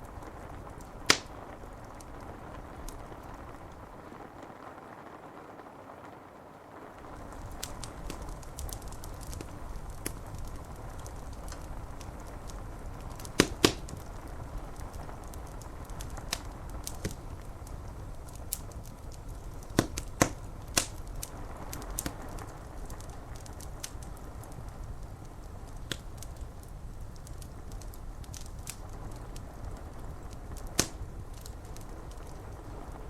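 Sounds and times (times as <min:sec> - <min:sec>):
loud fire pops: 0:00.0 - 0:04.8, 0:06.9 - 0:33.0
low rain: 0:00.0 - 0:33.0
wood fire crackling: 0:00.0 - 0:33.0.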